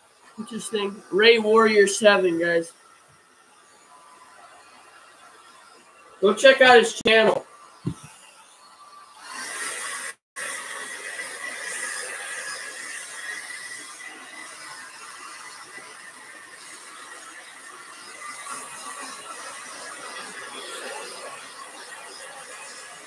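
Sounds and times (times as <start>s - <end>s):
hair dryer whining: 0.2s - 23.0s.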